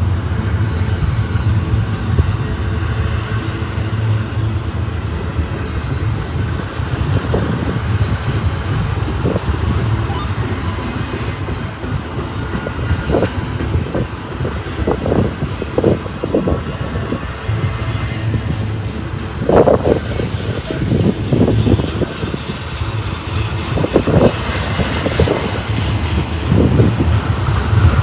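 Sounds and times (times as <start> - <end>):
freight train rumble: 0.0 - 28.0
wind gusts on microphone: 0.0 - 28.0.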